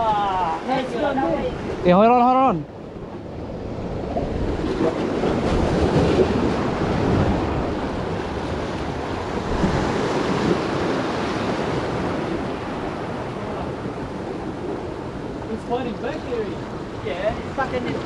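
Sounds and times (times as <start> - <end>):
wind buffeting microphone: 2.6 - 18.0
sea waves washing over rocks: 3.2 - 18.0.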